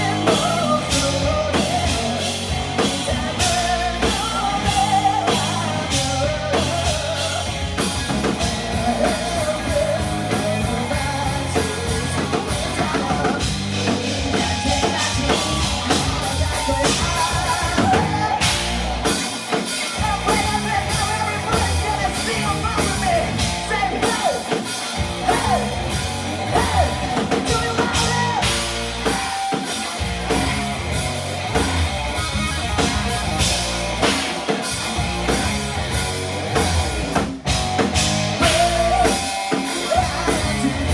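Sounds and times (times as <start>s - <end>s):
person singing lead vocal: 0.0s - 30.0s, 37.8s - 40.9s
live rock band playing: 0.0s - 40.9s.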